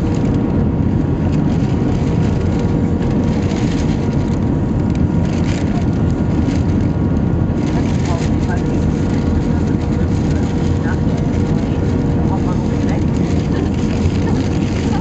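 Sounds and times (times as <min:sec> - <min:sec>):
deep jet engine rumble: 0:00.0 - 0:15.0.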